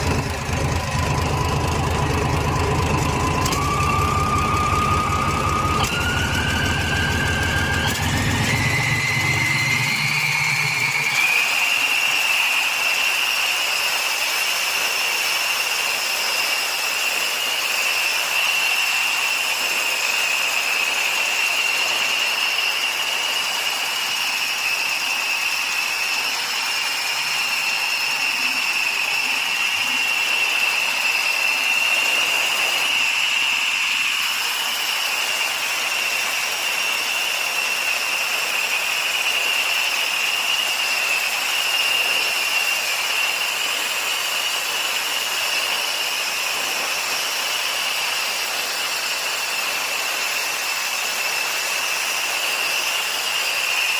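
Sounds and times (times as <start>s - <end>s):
high-pitched mechanical whine: 0.0s - 53.9s.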